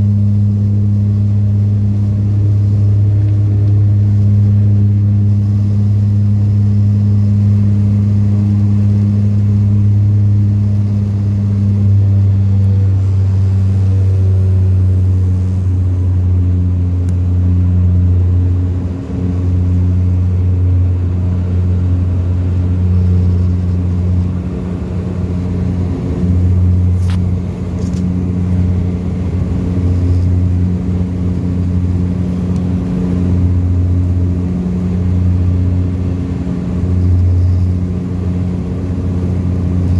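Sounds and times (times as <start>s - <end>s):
turboprop propeller drone in cabin: 0.0s - 39.9s.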